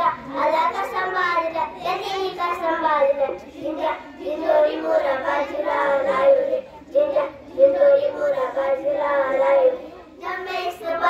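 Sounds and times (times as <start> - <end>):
girls singing: 0.0 - 11.0.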